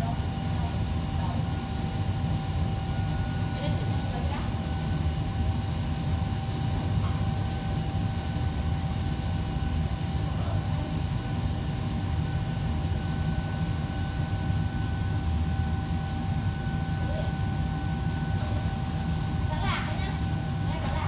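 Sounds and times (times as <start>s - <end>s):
machinery droning: 0.0s - 21.0s.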